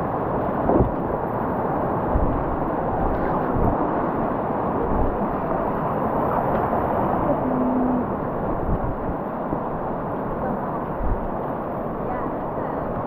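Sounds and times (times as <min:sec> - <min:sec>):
whitewater rushing around a kayak: 0:00.0 - 0:13.0.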